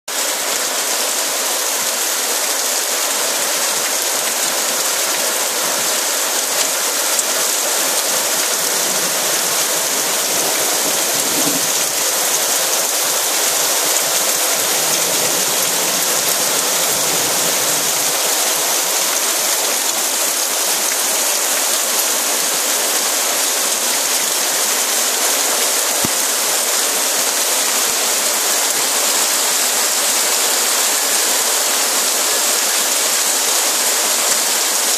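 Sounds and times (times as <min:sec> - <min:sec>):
heavy rain splashing into water: 0:00.1 - 0:34.9.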